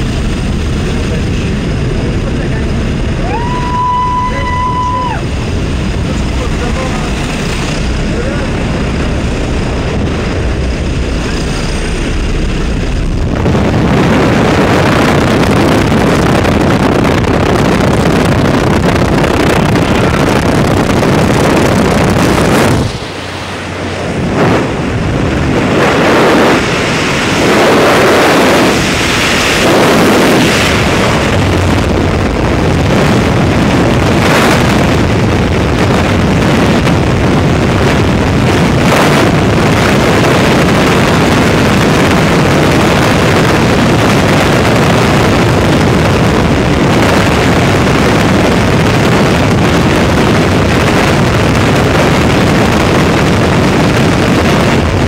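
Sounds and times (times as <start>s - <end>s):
small aircraft engine noise: 0.0s - 55.0s
wind rushing over microphone: 0.0s - 55.0s.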